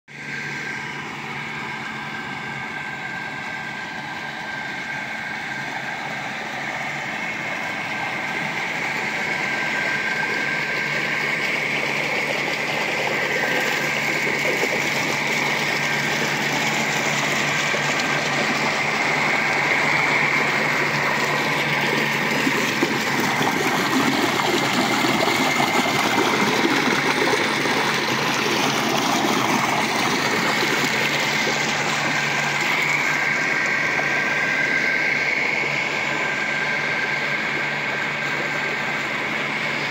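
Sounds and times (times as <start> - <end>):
pump engine humming: 0.1 - 39.9
water gushing into a tank: 0.1 - 39.9.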